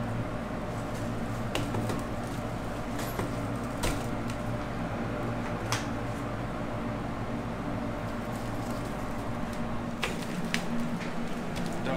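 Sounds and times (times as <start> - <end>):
kitchen extraction fan humming: 0.0 - 11.9.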